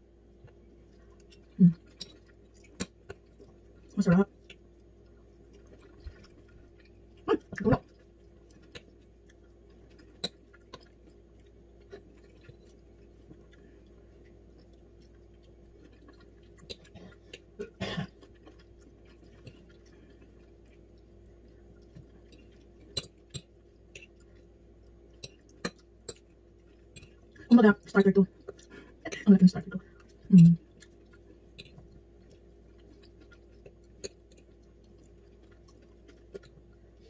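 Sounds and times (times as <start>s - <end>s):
faint steady hum: 0.0s - 37.0s
person chewing food: 0.3s - 27.5s, 28.3s - 29.1s, 29.8s - 37.0s.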